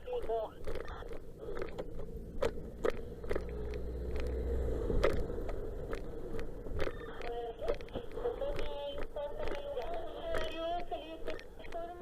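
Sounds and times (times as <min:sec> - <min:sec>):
sharp knocks or rattles: 0:00.0 - 0:11.5
vehicle rumble: 0:00.0 - 0:12.0.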